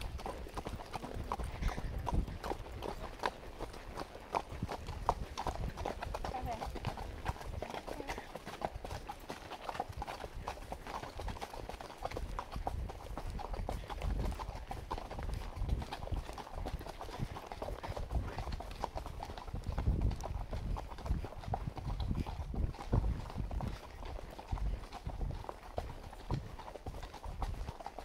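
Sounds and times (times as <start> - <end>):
horse hooves on dirt: 0.0 - 28.0.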